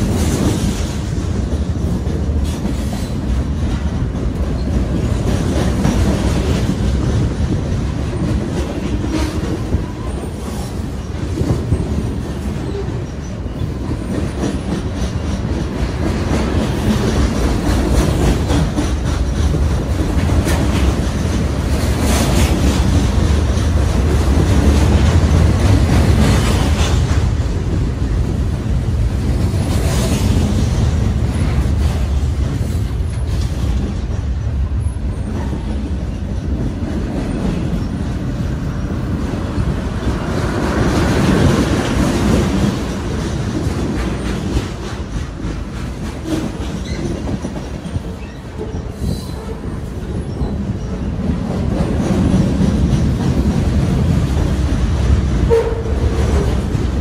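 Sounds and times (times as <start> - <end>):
freight train wheels clattering on rails: 0.0 - 57.0.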